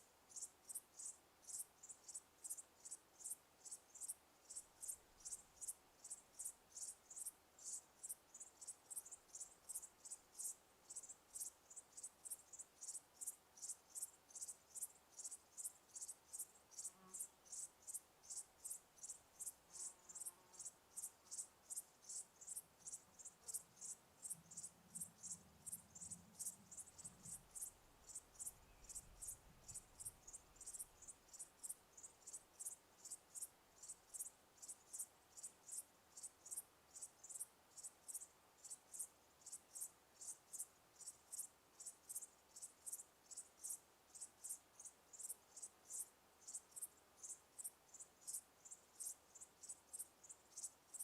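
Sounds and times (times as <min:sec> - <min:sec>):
crickets chirping: 0:00.3 - 0:51.0.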